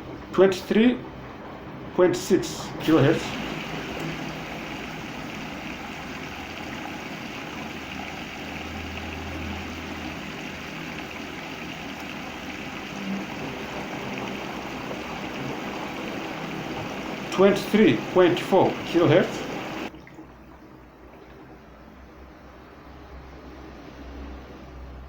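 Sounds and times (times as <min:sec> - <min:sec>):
water rushing into washing machine: 0:00.0 - 0:22.2.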